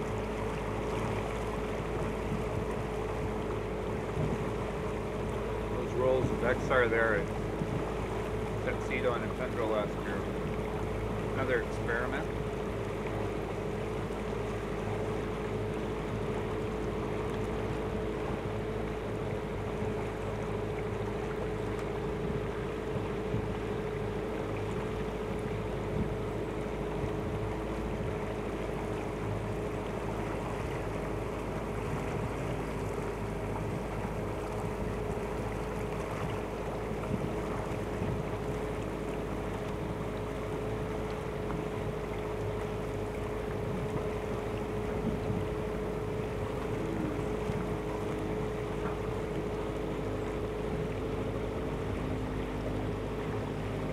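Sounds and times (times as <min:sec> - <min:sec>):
boat motor running: 0:00.0 - 0:53.9.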